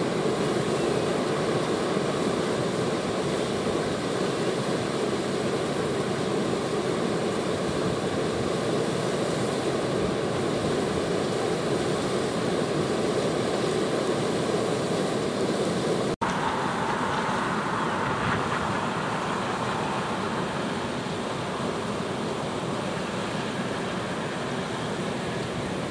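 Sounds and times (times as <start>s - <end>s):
water rushing over a weir: 0.0s - 25.9s.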